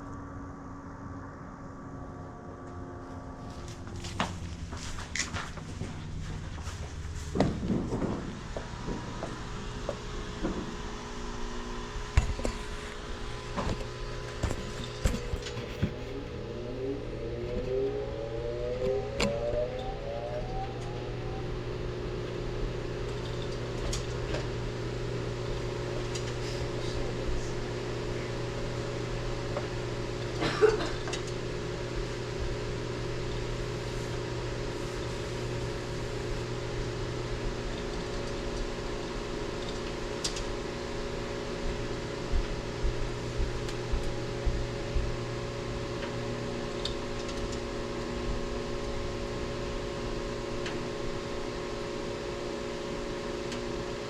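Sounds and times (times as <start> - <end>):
stove fans humming: 0.0 - 54.0.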